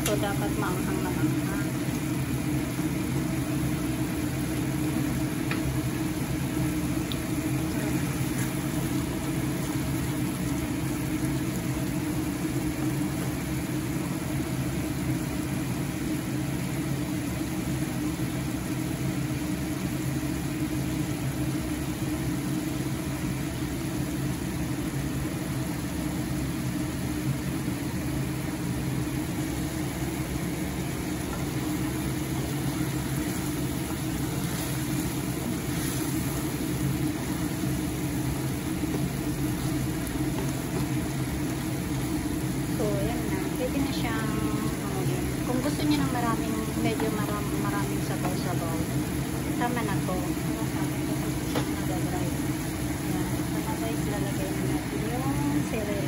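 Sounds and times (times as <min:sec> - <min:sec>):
curry simmering in a frying pan: 0:00.0 - 0:56.0
low mechanical hum: 0:00.0 - 0:56.0.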